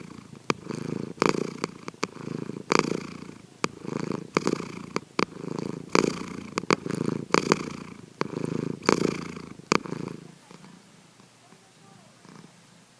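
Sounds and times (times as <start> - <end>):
cat snoring: 0.0 - 11.3, 12.2 - 12.6.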